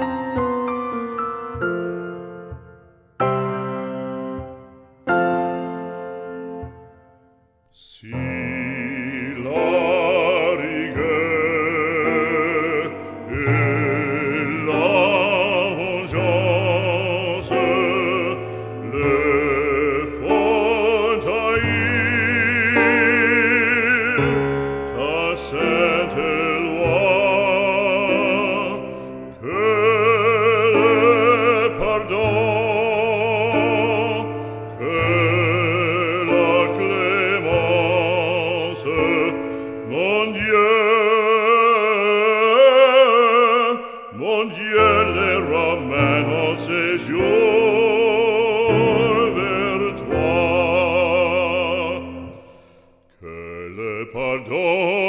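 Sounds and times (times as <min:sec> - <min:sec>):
operatic singing with vibrato: 0:07.7 - 0:55.0.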